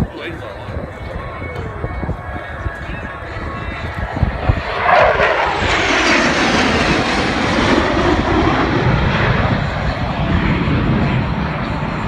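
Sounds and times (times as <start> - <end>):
fighter jets roaring past: 0.0 - 12.0.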